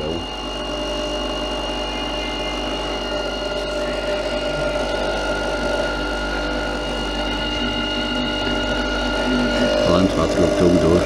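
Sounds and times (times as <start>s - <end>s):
coffee machine pump droning: 0.0s - 11.0s.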